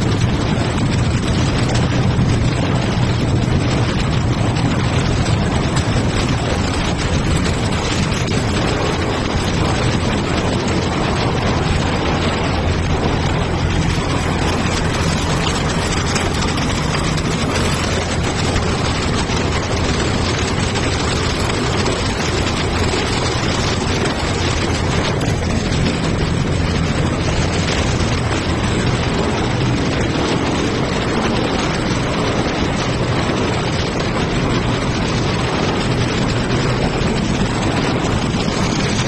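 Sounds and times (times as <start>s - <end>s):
industrial machinery running: 0.0s - 39.0s
low hum: 0.0s - 39.0s.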